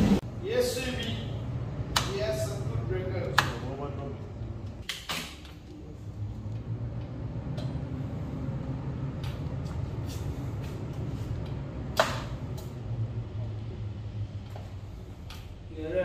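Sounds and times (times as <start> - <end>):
ventilation fan hum: 0.0 - 16.0.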